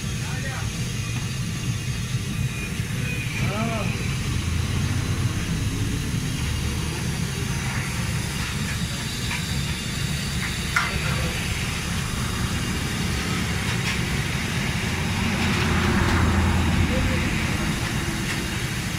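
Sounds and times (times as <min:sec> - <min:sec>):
open fire roaring: 0:00.0 - 0:18.9
wok frying hiss: 0:00.0 - 0:18.9.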